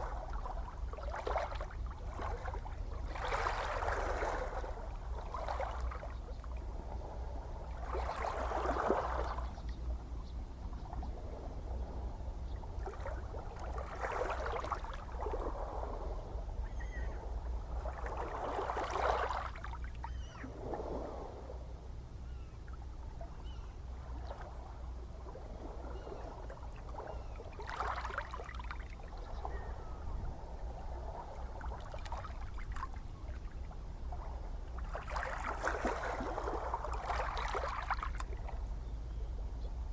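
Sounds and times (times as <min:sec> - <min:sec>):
gentle ocean waves washing in: 0:00.0 - 0:39.9
low rumble of surf: 0:00.0 - 0:39.9.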